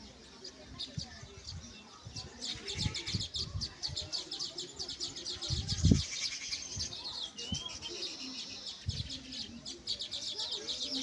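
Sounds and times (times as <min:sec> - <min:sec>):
birds chattering: 0:00.0 - 0:11.0.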